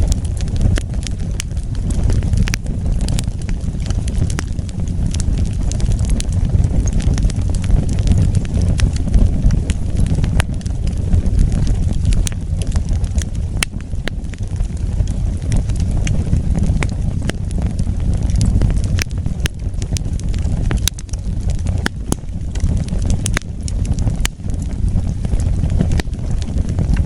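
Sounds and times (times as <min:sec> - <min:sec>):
fire crackles and pops: 0:00.0 - 0:27.0
wood fire rumbling: 0:00.0 - 0:27.0.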